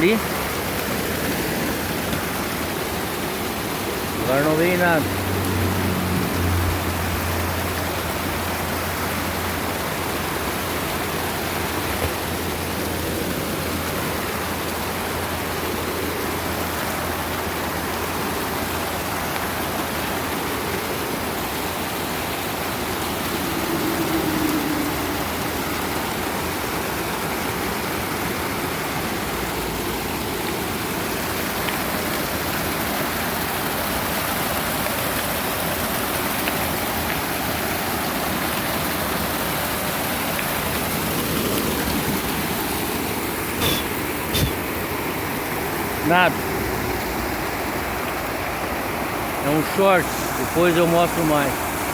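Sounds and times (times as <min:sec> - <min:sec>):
stream water rushing: 0:00.0 - 0:51.9.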